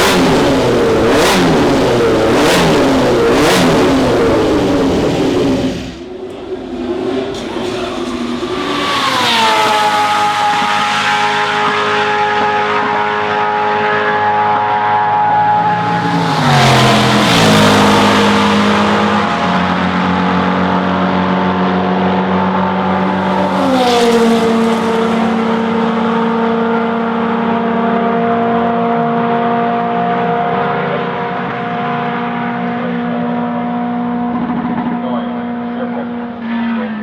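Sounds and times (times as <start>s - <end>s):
racing cars passing at speed: 0.0s - 37.0s.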